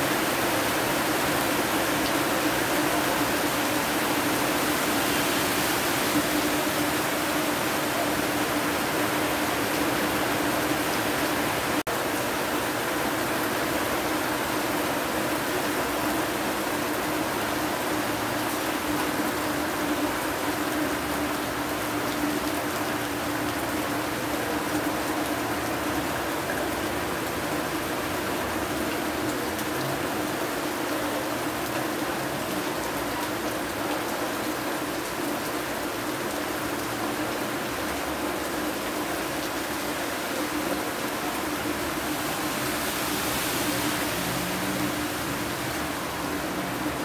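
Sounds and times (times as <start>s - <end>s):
heavy rain on wet ground: 0.0s - 47.0s.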